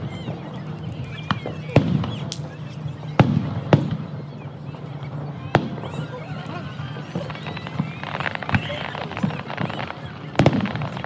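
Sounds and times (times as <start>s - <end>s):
crowd chatter: 0.0s - 11.0s
fireworks bangs: 0.0s - 11.0s.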